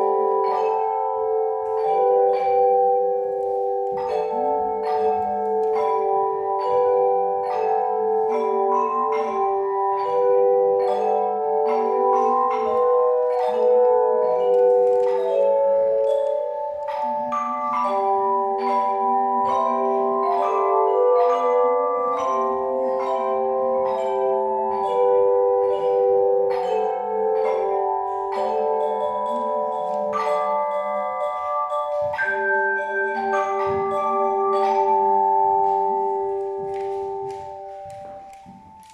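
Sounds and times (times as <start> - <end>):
chimes playing a hymn: 0.0 - 38.9.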